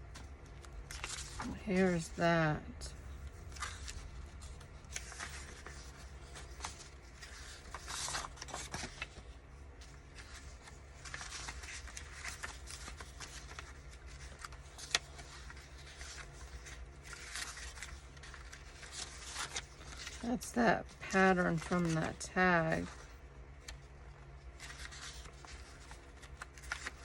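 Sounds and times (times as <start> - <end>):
low steady hum: 0.0 - 27.0
paper sheets rustling: 0.1 - 27.0.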